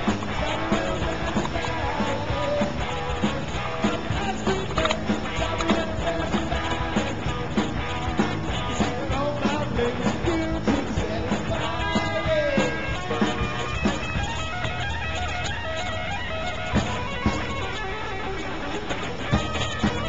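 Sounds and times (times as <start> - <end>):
rock song with singing: 0.0 - 20.0.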